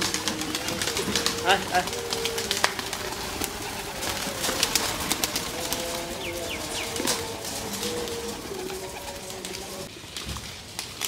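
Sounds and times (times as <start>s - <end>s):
birds cooing: 0.0s - 9.9s.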